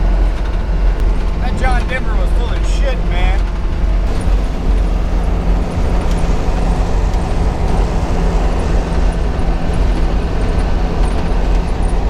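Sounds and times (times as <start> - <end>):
diesel engine drone: 0.0 - 12.0
road and wind noise: 0.0 - 12.0.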